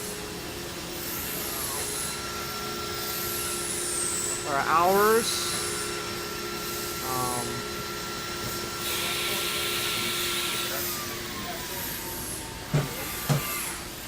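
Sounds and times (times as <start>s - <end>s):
milling machine whine: 0.0s - 14.0s.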